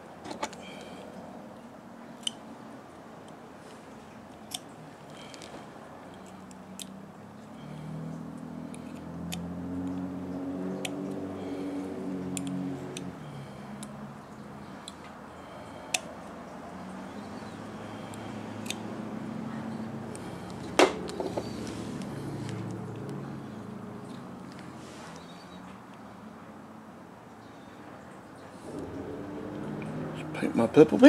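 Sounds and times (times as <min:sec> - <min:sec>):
engines droning: 0:00.0 - 0:31.0.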